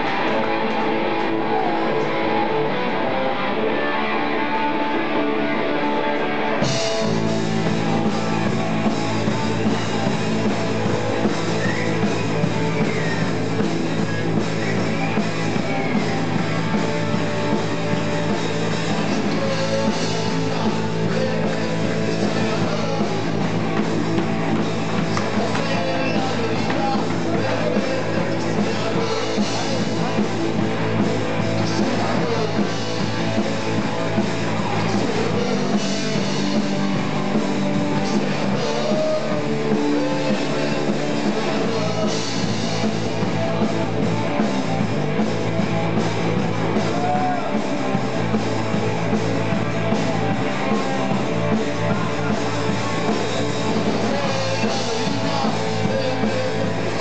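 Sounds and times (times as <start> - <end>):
drum kit: 0.0 - 5.3, 6.0 - 57.0
electric guitar: 0.0 - 57.0.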